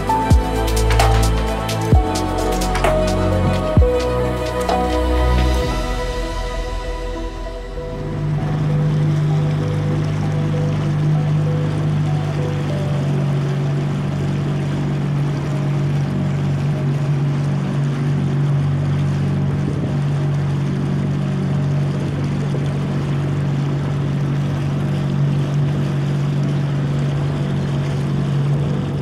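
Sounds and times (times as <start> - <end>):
small boat motor humming: 0.0 - 29.0
water wash: 0.0 - 29.0.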